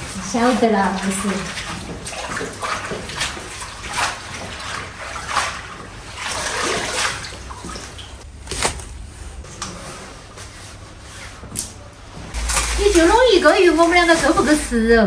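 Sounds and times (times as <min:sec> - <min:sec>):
water sloshing in a sink: 0:00.0 - 0:15.0.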